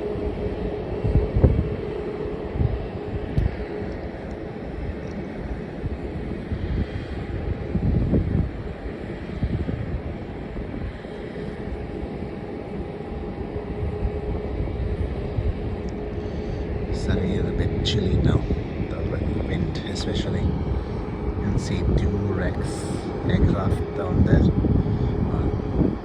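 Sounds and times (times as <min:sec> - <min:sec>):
distant jet engines humming: 0:00.0 - 0:26.0
wind buffeting microphone: 0:00.0 - 0:26.0.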